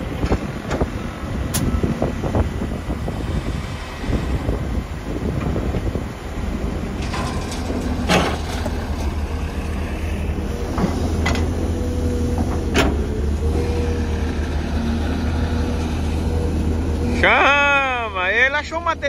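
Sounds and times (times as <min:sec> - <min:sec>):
heavy diesel machine running: 0:00.0 - 0:19.0.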